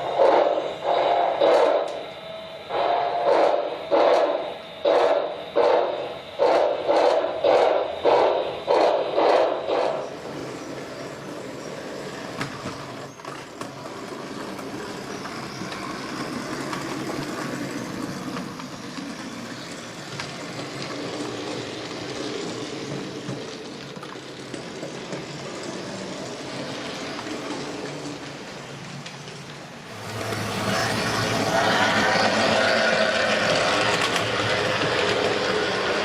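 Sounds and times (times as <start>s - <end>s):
model train rolling rumble: 2.7s - 36.0s.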